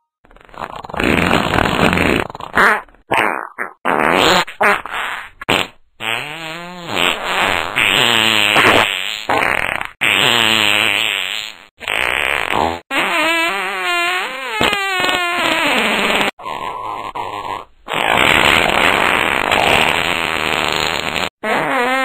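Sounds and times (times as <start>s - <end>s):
fart sounds: 0.2s - 22.0s.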